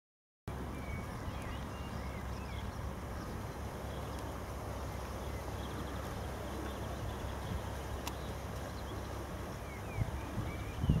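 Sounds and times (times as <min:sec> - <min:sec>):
steady low rumble: 0:00.5 - 0:11.0.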